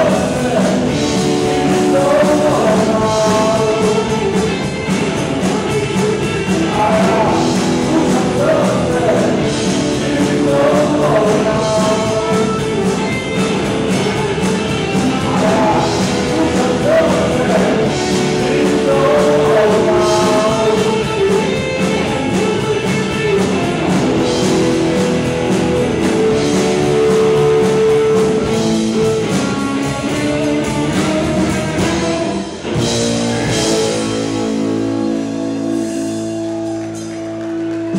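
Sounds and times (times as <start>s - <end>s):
person singing: 0.0s - 37.0s
live rock band playing: 0.0s - 37.9s.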